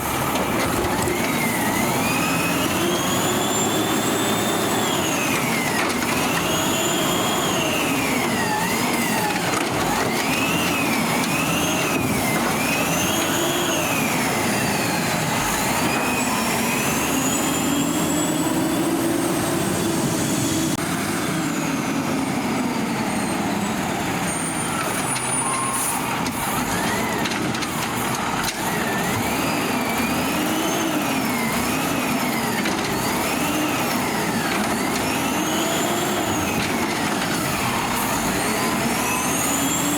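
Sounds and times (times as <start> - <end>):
diesel truck engine revving: 0.0 - 24.8, 26.0 - 39.9.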